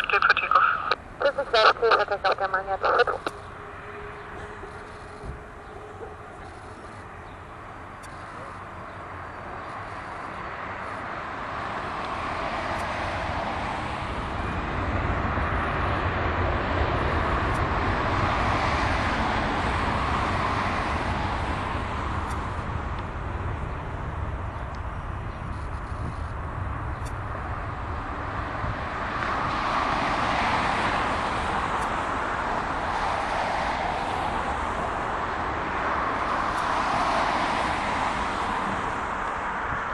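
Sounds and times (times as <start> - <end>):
jet engines at takeoff thrust: 0.0 - 39.9.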